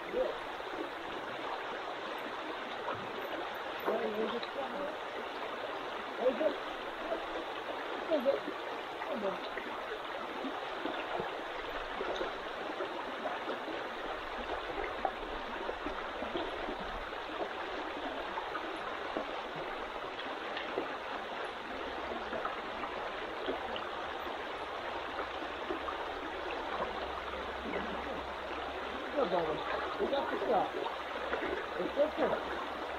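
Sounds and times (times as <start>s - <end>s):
small splashes and trickles: 0.0s - 32.9s
stream water rushing: 0.0s - 32.9s.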